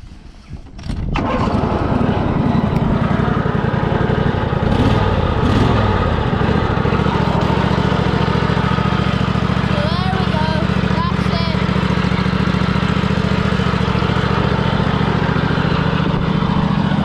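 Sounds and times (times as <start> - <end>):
lawn mower engine starting and running: 0.0 - 17.0.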